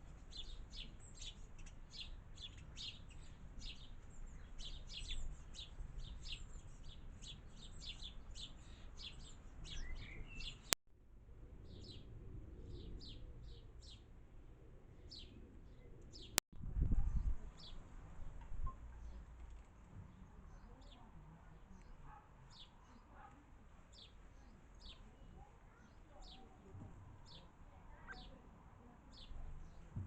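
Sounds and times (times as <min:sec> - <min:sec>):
garden birds chirping: 0:00.0 - 0:30.0.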